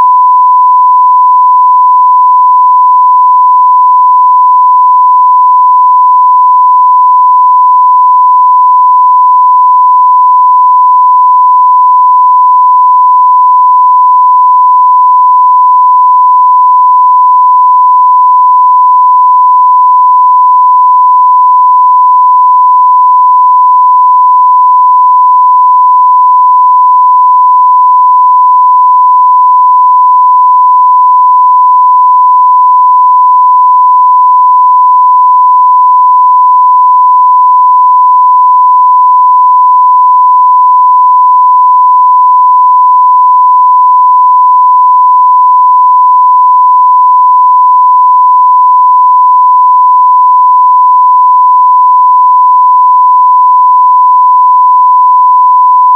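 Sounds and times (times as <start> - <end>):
sine wave test tone: 0.0 - 55.9.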